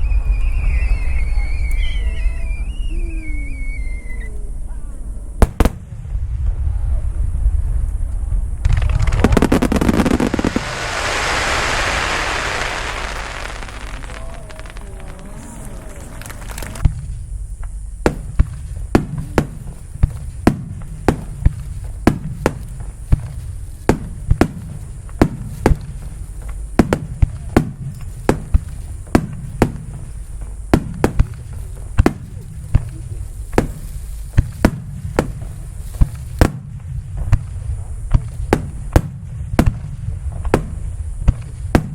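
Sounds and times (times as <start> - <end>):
low rumble of booms: 0.0 - 41.9
firework shells bursting: 5.4 - 6.0, 7.9 - 41.9.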